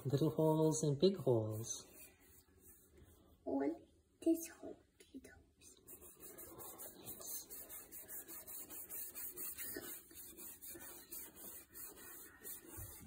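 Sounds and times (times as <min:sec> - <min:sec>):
paintbrush rubbing on paper: 0:00.0 - 0:03.6, 0:05.6 - 0:13.0.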